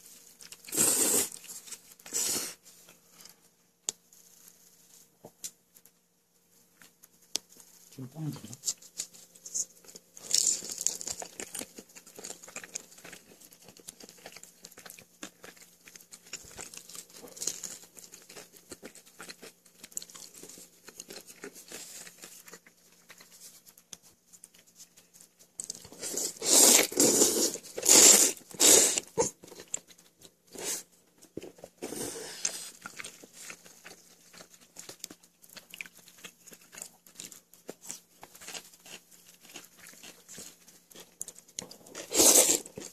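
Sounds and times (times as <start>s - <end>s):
crunching and chewing: 0.0s - 42.9s.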